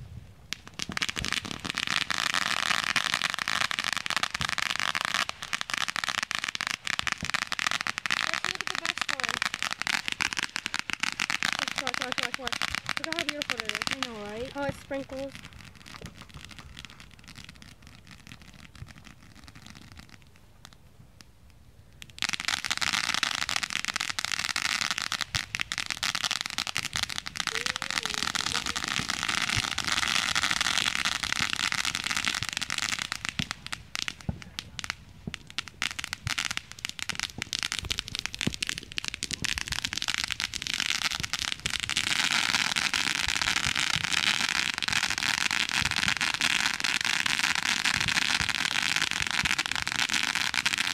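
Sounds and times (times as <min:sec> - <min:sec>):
firework crackling hiss with pops: 0:00.0 - 0:50.9.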